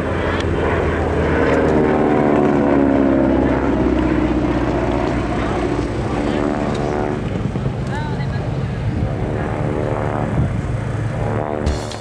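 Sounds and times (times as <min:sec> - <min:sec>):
propeller plane flying past: 0:00.0 - 0:12.0.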